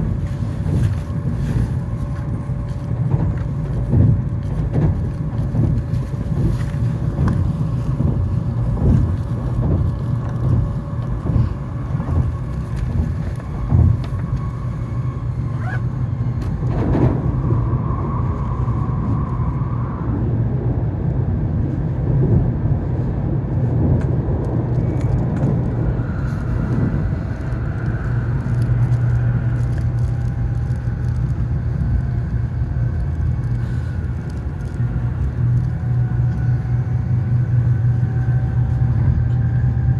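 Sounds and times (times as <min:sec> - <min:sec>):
faint whining tone: 0:00.0 - 0:20.4, 0:24.7 - 0:39.9
train cabin rumble: 0:00.0 - 0:39.9.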